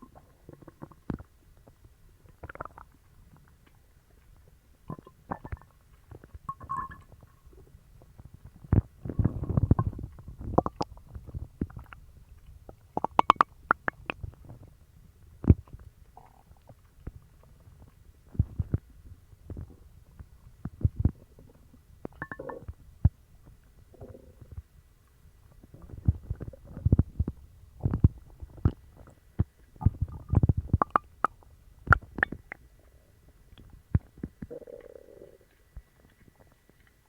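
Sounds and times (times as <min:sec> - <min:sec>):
stomach growling and gurgling: 0:00.0 - 0:37.0.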